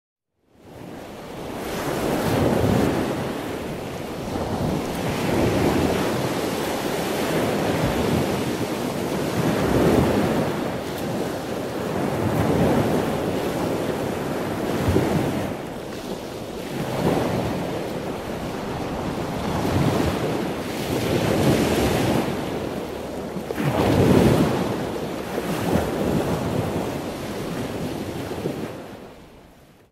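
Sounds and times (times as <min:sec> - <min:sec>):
wind on microphone: 0:00.6 - 0:29.7
ocean surf breaking on beach: 0:00.6 - 0:29.9.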